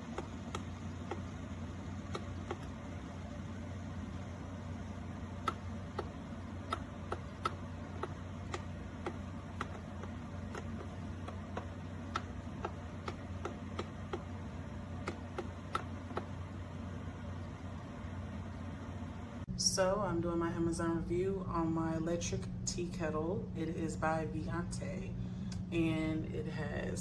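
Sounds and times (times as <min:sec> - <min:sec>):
electric kettle humming: 0:00.0 - 0:26.9.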